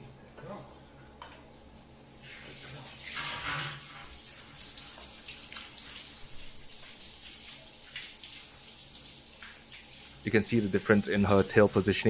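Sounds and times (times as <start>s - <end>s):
shower head spraying water: 2.2s - 12.0s.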